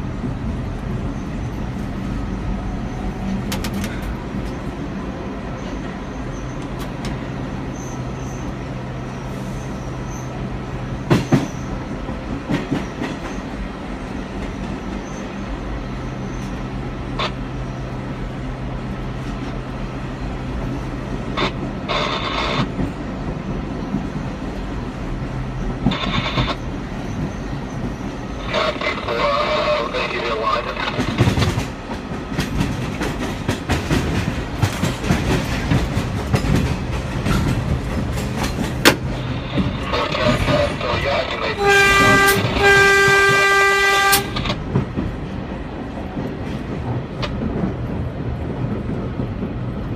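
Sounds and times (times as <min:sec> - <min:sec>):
train low hum: 0:00.0 - 0:49.9.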